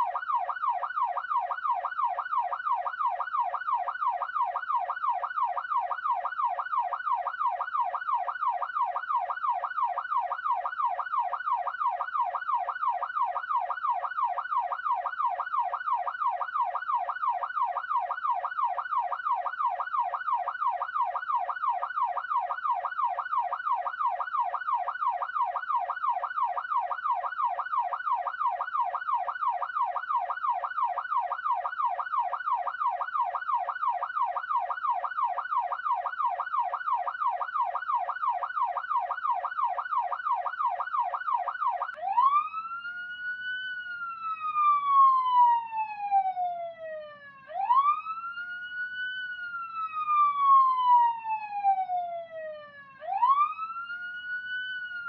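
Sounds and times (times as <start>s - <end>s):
police siren: 0.0s - 55.0s.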